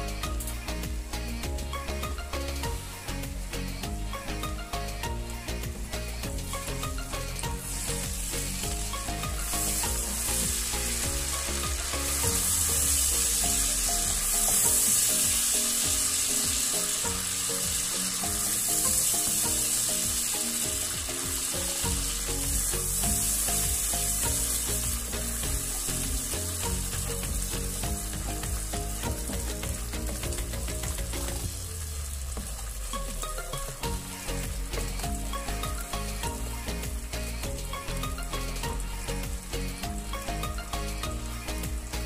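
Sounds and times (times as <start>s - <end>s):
sauce sizzling in a frying pan: 0.0s - 42.0s.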